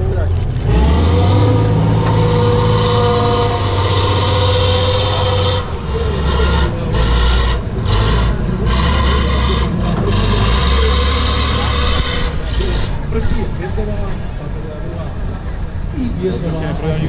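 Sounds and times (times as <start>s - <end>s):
truck diesel engine under load: 0.0s - 17.0s.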